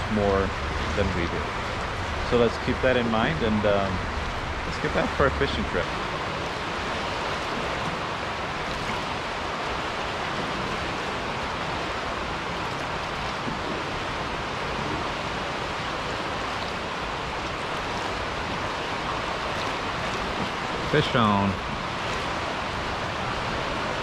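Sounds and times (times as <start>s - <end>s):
choppy water rushing: 0.0s - 24.0s
wind: 0.0s - 24.0s.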